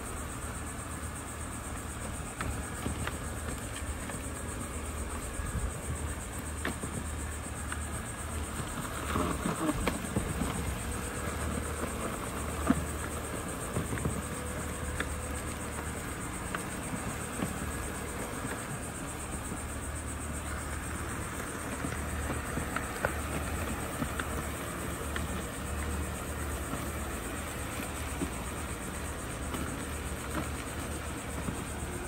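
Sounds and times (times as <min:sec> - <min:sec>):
robot vacuum motor and brush hum: 0:00.0 - 0:32.0.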